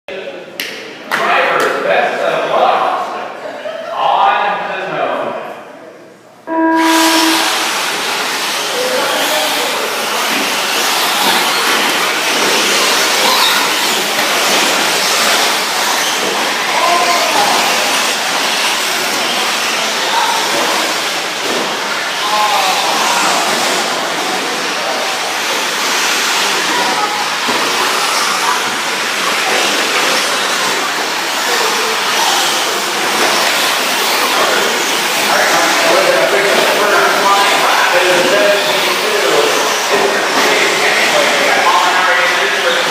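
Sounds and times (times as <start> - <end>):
rc trucks whirring: 6.8 - 42.9.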